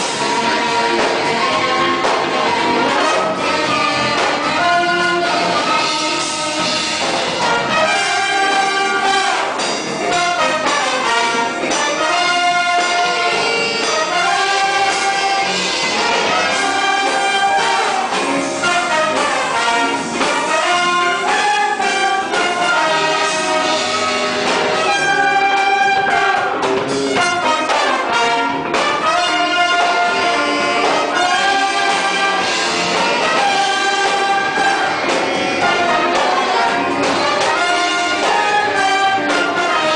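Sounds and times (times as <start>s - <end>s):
orchestra playing: 0.0s - 39.9s.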